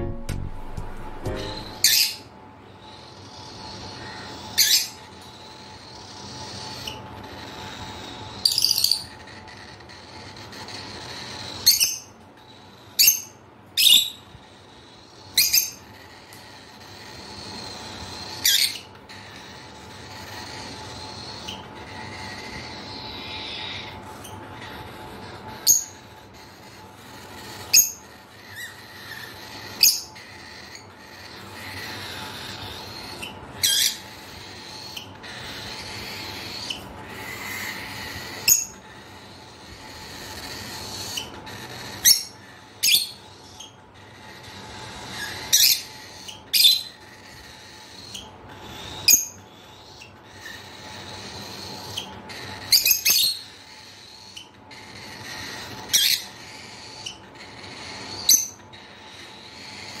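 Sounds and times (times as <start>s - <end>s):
lovebirds shrieking: 1.3s - 60.0s.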